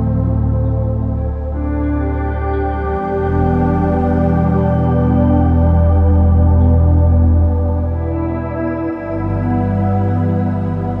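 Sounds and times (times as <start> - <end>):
slow held music chords: 0.0 - 11.0.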